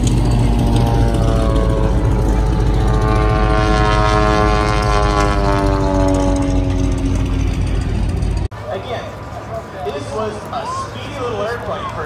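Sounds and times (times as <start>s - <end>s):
propeller plane flying past: 0.0s - 10.2s.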